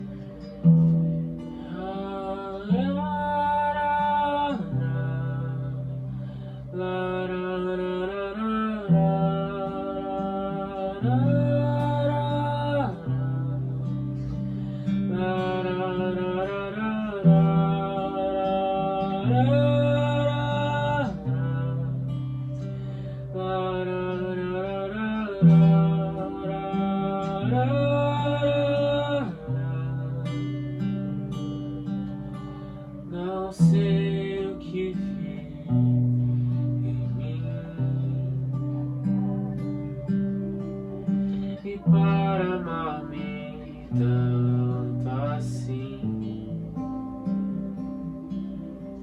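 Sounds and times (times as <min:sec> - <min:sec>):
acoustic guitar chords: 0:00.0 - 0:49.0.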